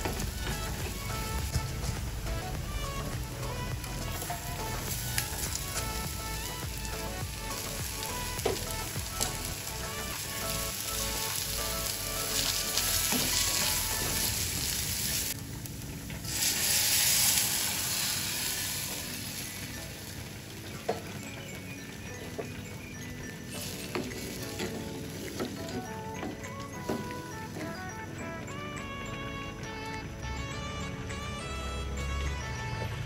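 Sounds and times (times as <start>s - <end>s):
lentils sizzling in hot oil: 0.0s - 28.0s.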